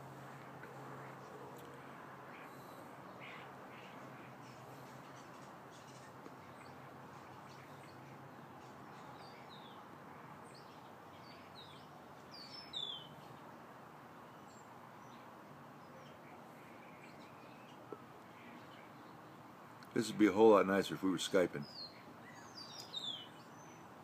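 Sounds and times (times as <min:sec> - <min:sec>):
birds chirping: 0:00.0 - 0:24.0
low background noise: 0:00.0 - 0:24.0.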